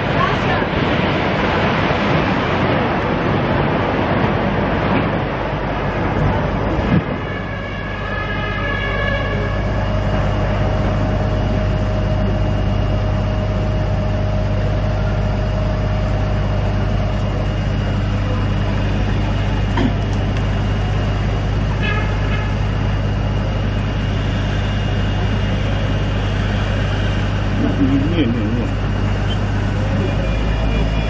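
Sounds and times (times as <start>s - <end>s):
fire engines rumbling: 0.0s - 31.0s.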